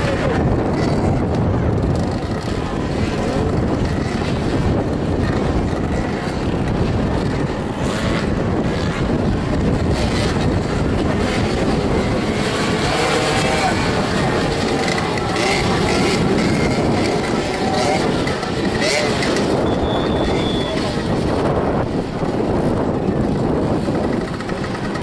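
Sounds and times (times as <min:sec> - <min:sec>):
motorcycle engines revving: 0:00.0 - 0:25.0
steady rush of noise: 0:00.0 - 0:25.0.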